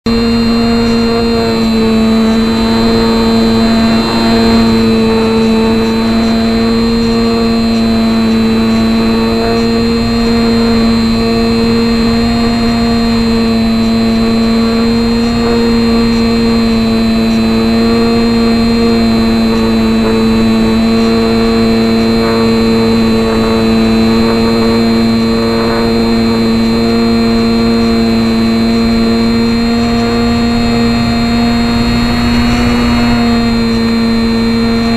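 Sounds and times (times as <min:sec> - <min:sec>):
model plane motor and propeller drone: 0:00.0 - 0:34.9.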